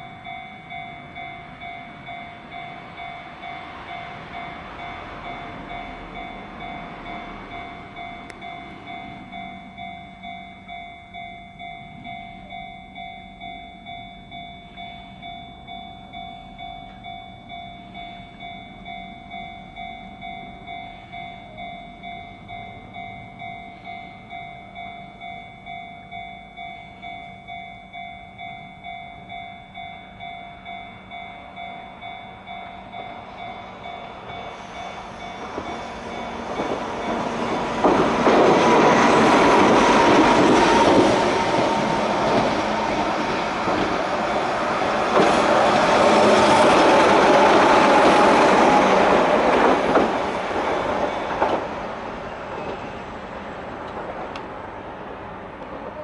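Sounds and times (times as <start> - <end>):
level crossing warning bell ringing: 0.0 - 51.9
loud rail and motor noise: 0.0 - 56.0
train passing over crossing: 0.0 - 56.0.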